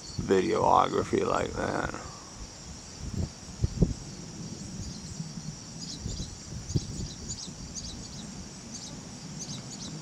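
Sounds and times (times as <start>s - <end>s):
insects trilling: 0.0s - 10.0s
pulsed insect chirps: 0.0s - 10.0s.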